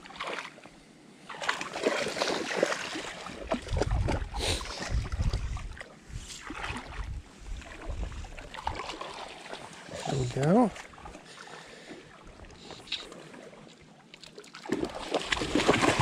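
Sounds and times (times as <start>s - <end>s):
creek water splashing: 0.0s - 0.6s, 1.2s - 16.0s.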